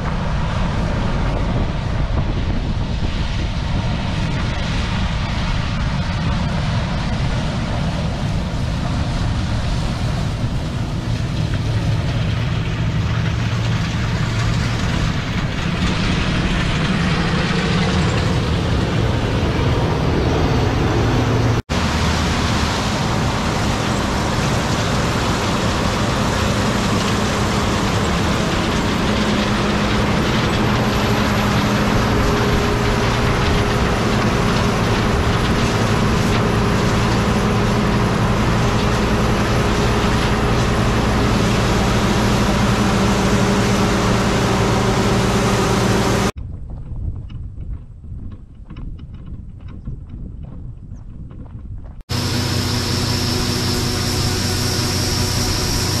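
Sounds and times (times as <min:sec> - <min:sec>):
combine harvester running: 0:00.0 - 0:46.4, 0:52.1 - 0:56.0.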